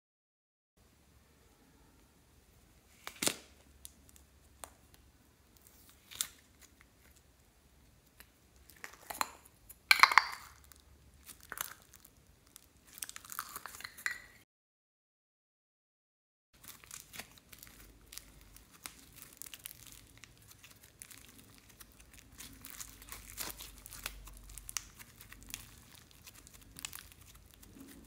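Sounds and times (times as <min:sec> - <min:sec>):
plastic toy egg crackling and crunching: 0:03.0 - 0:14.1, 0:16.6 - 0:28.0.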